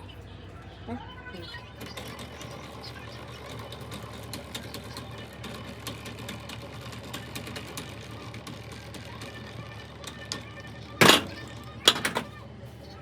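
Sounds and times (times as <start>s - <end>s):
workshop machine humming: 0.0s - 13.0s.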